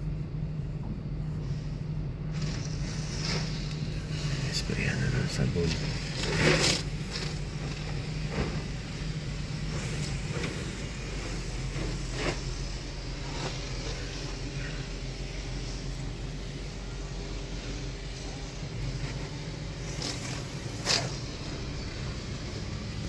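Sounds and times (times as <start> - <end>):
pressure washer motor hum: 0.0 - 23.0
hiss of spraying water: 1.4 - 23.0.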